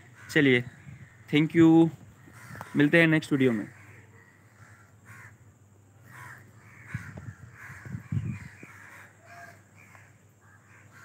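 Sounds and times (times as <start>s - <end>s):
birds calling harshly: 0.0s - 11.0s.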